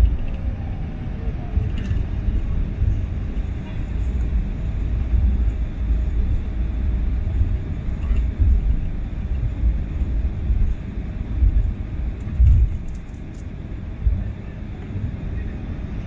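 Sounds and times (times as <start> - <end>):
aircraft wheels rolling: 0.0 - 16.0
jet engines rumbling: 0.0 - 16.0.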